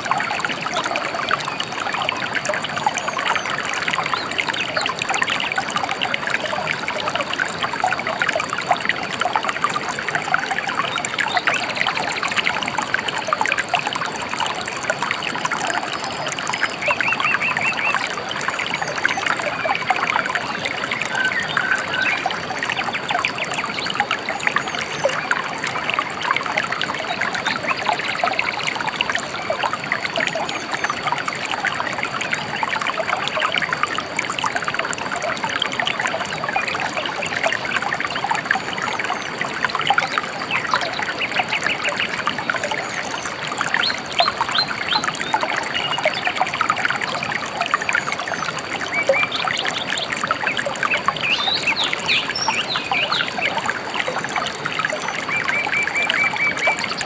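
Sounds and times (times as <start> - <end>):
river babbling: 0.0 - 57.0.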